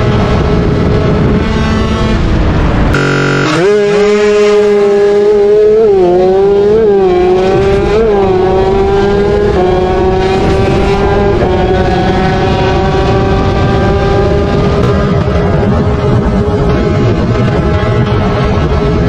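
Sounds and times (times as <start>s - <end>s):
racing motorcycle engine revving: 0.0s - 19.0s.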